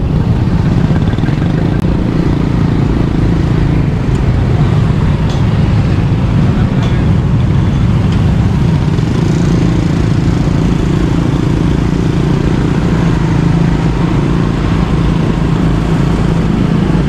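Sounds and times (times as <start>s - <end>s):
motorbike engine running: 0.0s - 17.0s
wind and road noise: 0.0s - 17.0s.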